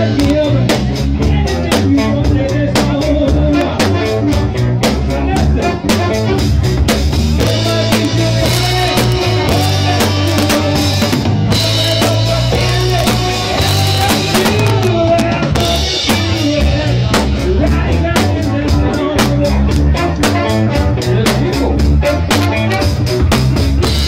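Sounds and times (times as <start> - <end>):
bass line: 0.0 - 24.0
drum kit beat: 0.0 - 24.0
keyboard: 0.0 - 24.0.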